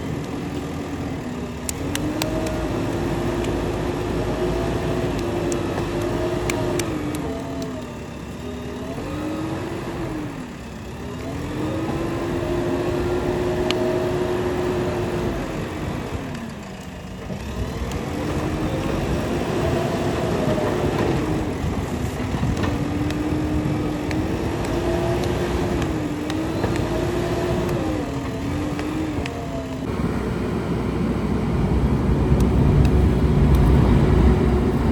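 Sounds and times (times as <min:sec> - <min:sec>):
diesel engine working under load: 0:00.0 - 0:34.9.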